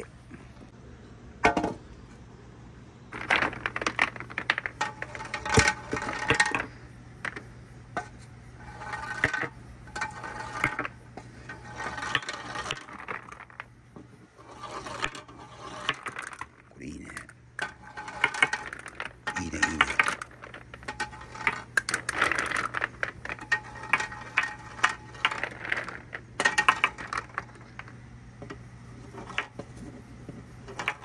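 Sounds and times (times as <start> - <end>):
marbles clattering down track: 3.1 - 7.4, 8.6 - 13.7, 14.4 - 29.7, 30.7 - 31.0.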